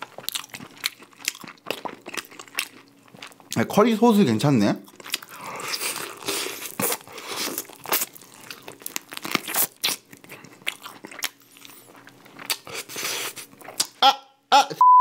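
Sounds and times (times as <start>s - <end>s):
person crunching crispy chicken: 0.0s - 3.6s, 4.8s - 14.0s.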